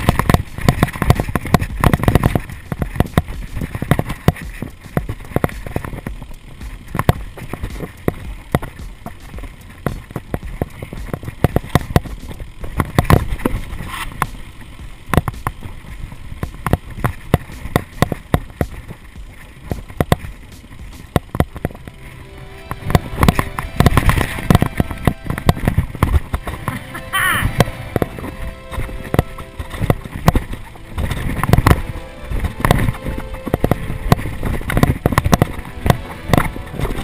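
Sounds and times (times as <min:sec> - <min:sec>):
bike frame and chain rattling: 0:00.0 - 0:22.1, 0:27.6 - 0:37.0
tyres rumbling on trail: 0:00.0 - 0:37.0.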